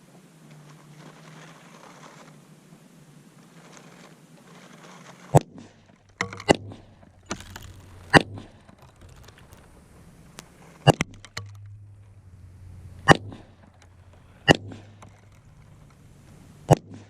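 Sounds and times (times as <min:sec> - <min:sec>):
small cracks: 0:00.4 - 0:02.5, 0:03.4 - 0:17.0.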